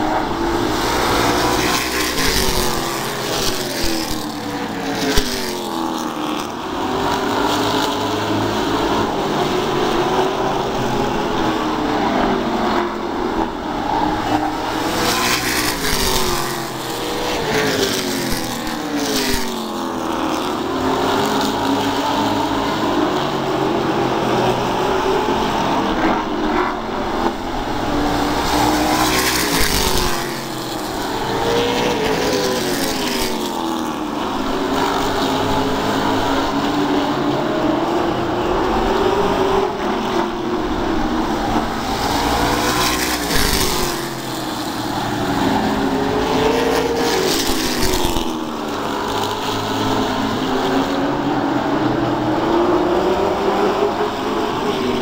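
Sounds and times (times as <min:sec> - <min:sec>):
cars passing close by: 0:00.0 - 0:55.0
race car engines: 0:00.0 - 0:55.0.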